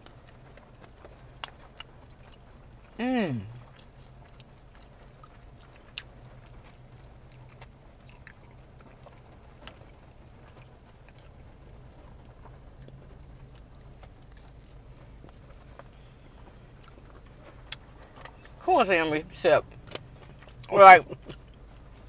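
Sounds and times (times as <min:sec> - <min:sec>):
people chewing: 0:00.0 - 0:11.4, 0:12.4 - 0:18.6, 0:19.8 - 0:22.0.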